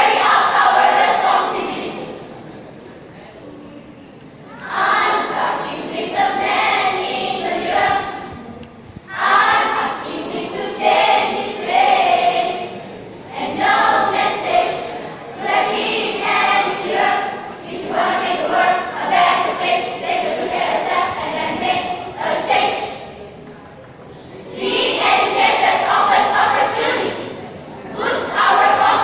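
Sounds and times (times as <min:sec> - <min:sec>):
choir singing: 0:00.0 - 0:02.6, 0:04.6 - 0:08.5, 0:09.1 - 0:23.2, 0:24.4 - 0:29.0.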